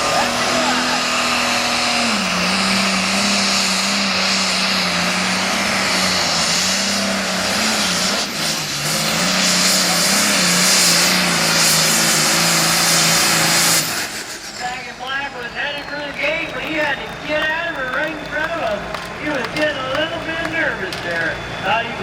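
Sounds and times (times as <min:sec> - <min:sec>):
diesel tractor engine under load: 0:00.0 - 0:22.0
exhaust rush: 0:00.0 - 0:22.0.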